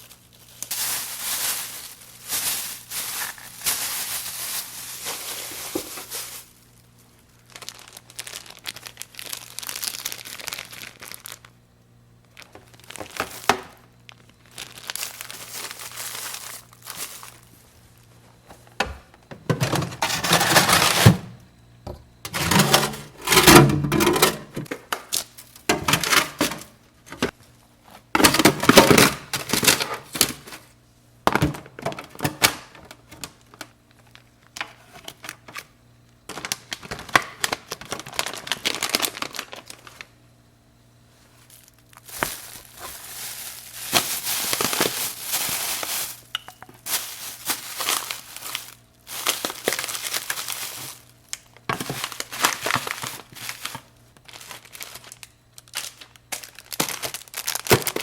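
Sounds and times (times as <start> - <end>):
plastic packaging crinkling: 0.0 - 11.6, 12.2 - 18.9, 19.6 - 21.3, 22.2 - 30.8, 31.7 - 40.2, 41.2 - 58.0.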